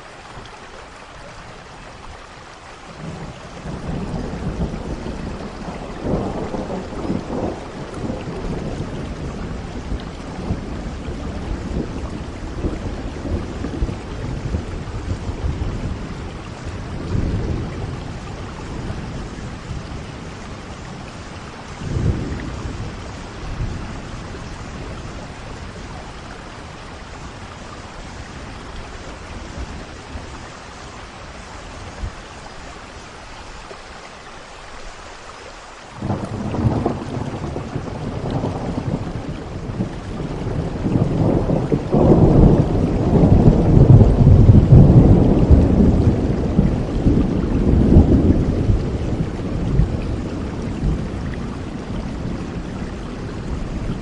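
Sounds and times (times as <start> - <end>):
steady rain falling: 0.0 - 54.0
rolling thunder: 2.9 - 32.2, 36.0 - 54.0.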